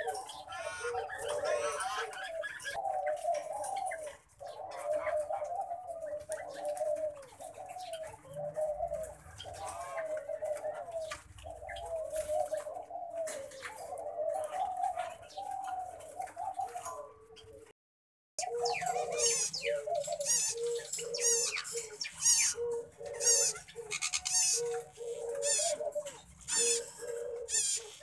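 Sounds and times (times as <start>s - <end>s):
low wavering bird calls: 0.0s - 17.7s, 18.4s - 28.0s.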